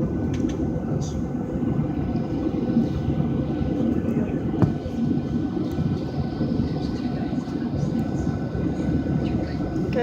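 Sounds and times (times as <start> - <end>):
airliner cabin rumble and hum: 0.0 - 10.0.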